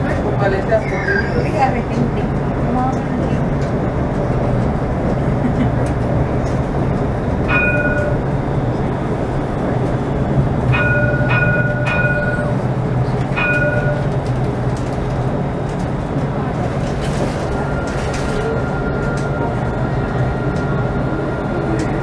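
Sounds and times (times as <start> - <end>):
tram rumbling: 0.0 - 22.0.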